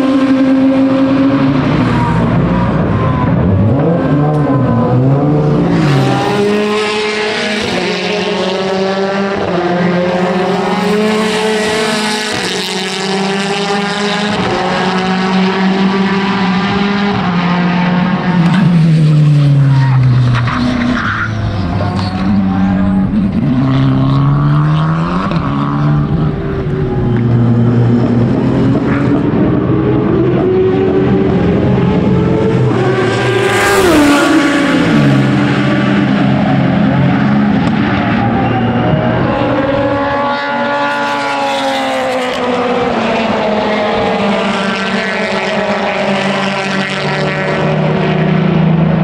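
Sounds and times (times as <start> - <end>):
race car engines passing: 0.0 - 49.0.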